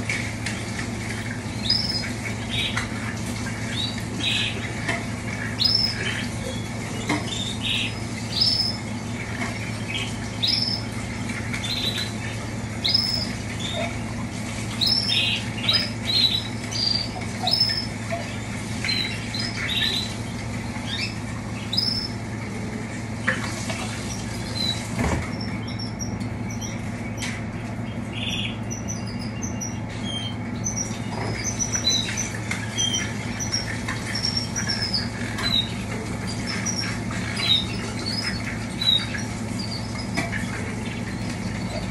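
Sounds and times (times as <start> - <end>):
steady low hum: 0.0 - 41.9
canaries chirping: 0.6 - 22.9, 23.8 - 41.9.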